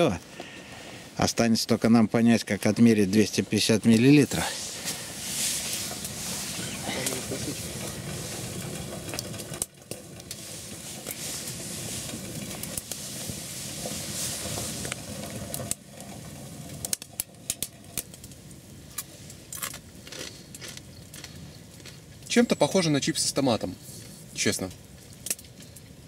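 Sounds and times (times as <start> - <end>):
crackles and clicks: 0.0 - 26.0
stove hissing: 0.0 - 26.0.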